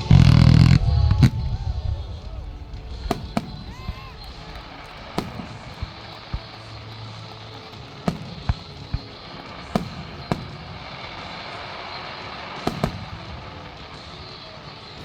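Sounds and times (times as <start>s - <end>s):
fireworks bangs: 0.0s - 15.0s
steady background noise: 0.0s - 15.0s.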